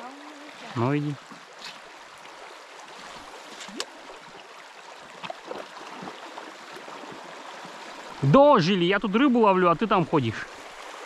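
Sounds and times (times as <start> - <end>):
river water rushing: 0.0 - 11.0
water gurgles: 0.0 - 11.0.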